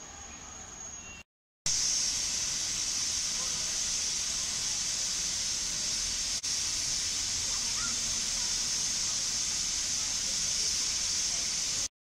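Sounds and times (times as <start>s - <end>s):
steam hissing from locomotive: 1.7s - 11.9s.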